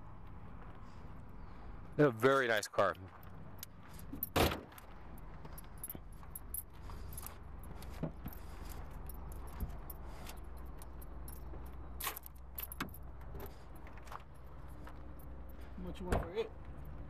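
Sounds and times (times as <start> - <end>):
light clicks and jingles: 2.3 - 17.0
steady low rumble: 2.8 - 17.0.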